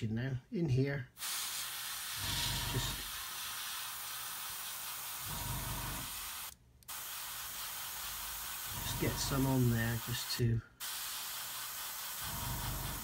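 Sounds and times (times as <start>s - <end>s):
airbrush spraying hiss: 1.2s - 13.0s.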